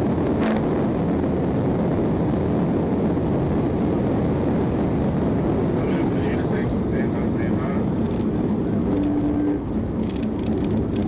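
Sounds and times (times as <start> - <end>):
moving vehicle rumbling: 0.0 - 11.0.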